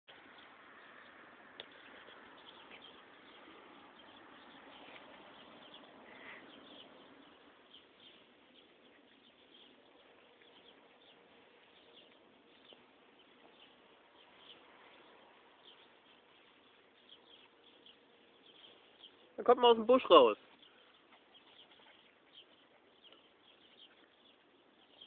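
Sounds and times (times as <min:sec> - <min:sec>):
faint outdoor hiss: 0:00.1 - 0:25.0.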